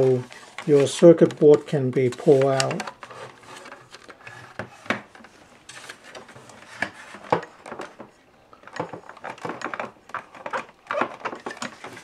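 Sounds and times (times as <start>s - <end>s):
clicks and knocks of plastic parts: 0.0s - 12.0s.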